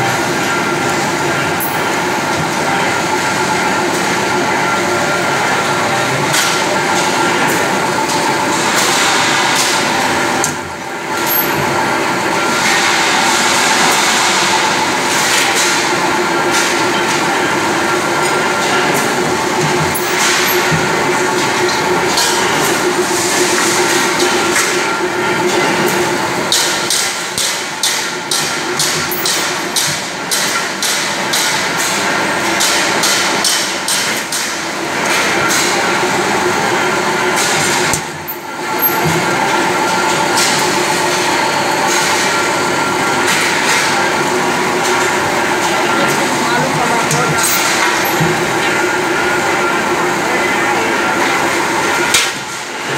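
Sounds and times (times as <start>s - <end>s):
clattering machine noise: 0.0s - 52.9s.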